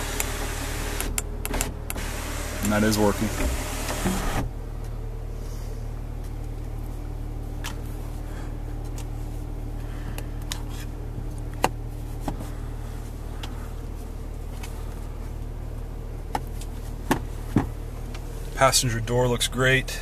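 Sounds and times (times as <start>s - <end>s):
low hum inside car cabin: 0.0s - 20.0s.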